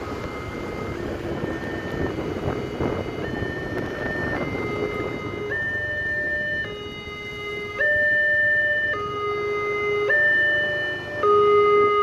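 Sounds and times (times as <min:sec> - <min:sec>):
two-tone level crossing alarm: 0:00.0 - 0:12.0.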